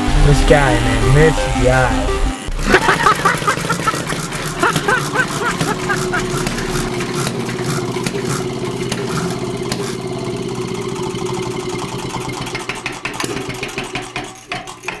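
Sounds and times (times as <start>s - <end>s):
engine running: 0.0s - 14.8s.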